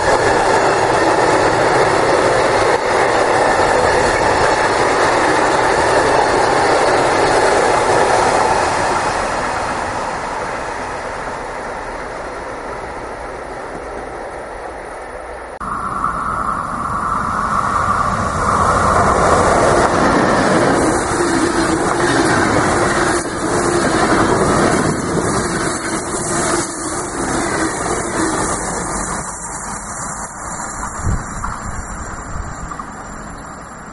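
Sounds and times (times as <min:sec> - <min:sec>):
distant train approaching: 0:00.0 - 0:33.9
train passing at speed: 0:00.0 - 0:33.9.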